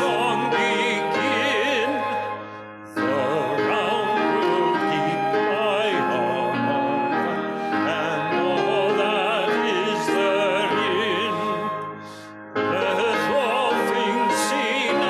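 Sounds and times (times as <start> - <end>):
hymn singing with vibrato: 0.0 - 15.0
instrumental accompaniment: 0.0 - 15.0.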